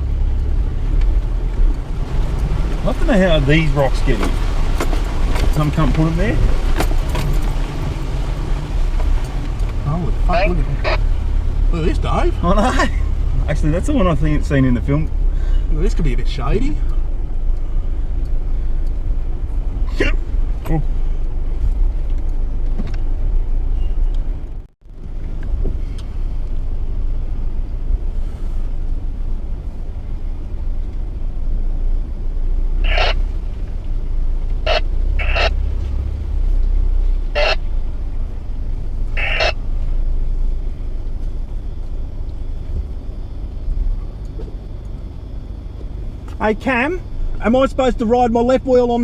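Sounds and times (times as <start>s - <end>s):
vehicle engine and tyre rumble: 0.0s - 49.0s.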